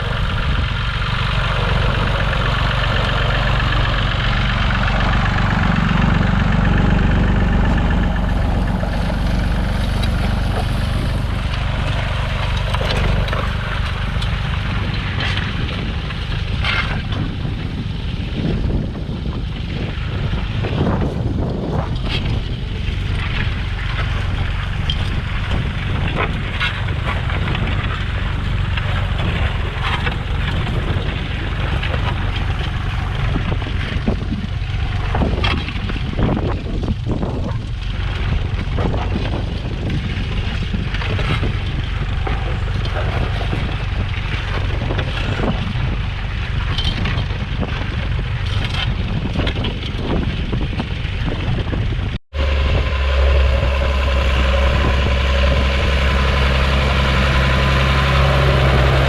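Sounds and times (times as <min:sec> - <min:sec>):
tractor engine running: 0:00.0 - 0:59.0
wind buffeting microphone: 0:00.0 - 0:59.0.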